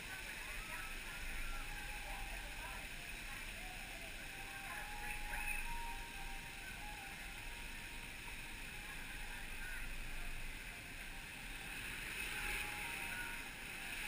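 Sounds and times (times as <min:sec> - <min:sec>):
flowing water: 0:00.0 - 0:14.0.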